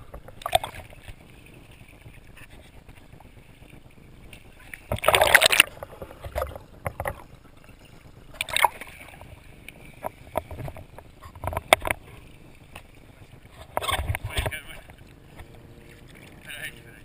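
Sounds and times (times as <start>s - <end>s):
paddle strokes in water: 0.0s - 17.0s
water splashing around kayak: 0.0s - 17.0s.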